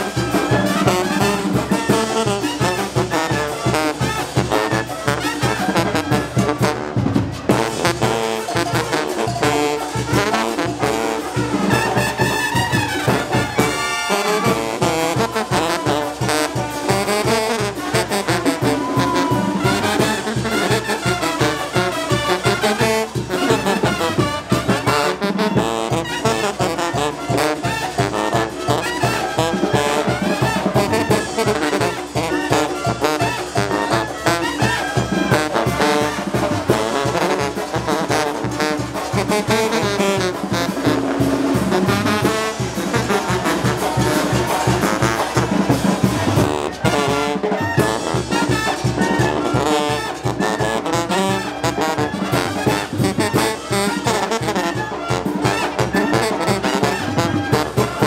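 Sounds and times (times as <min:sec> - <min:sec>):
brass band playing: 0:00.0 - 0:58.0
trumpets and clarinets: 0:00.0 - 0:58.0.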